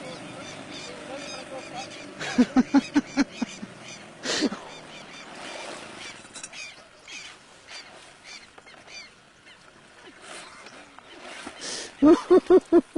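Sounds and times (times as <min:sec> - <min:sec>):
birds calling and chirping: 0:00.0 - 0:12.8.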